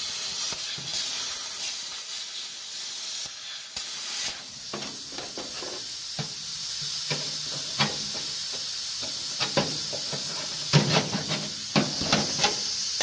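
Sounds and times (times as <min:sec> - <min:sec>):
plasma torch hissing: 0:00.0 - 0:13.0.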